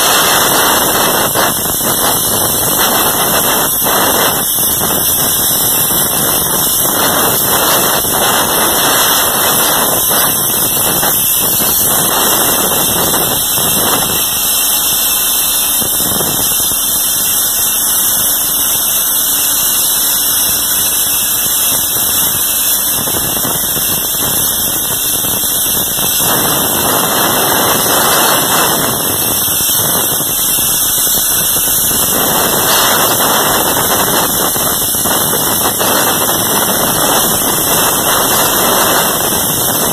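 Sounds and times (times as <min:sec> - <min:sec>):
plasma torch cutting steel: 0:00.0 - 0:39.9.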